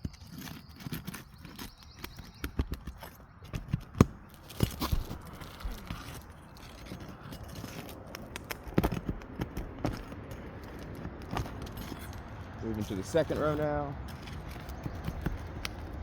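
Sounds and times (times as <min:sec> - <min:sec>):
metal tool prying roof shingles: 0:00.0 - 0:16.0.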